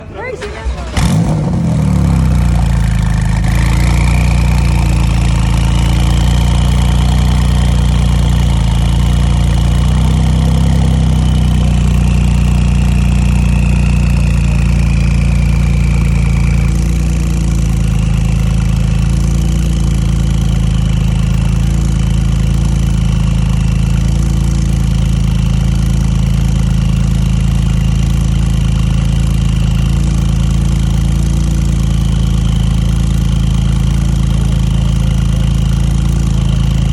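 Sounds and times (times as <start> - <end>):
car engine fast idle: 0.0 - 36.9
high whine: 0.0 - 36.9.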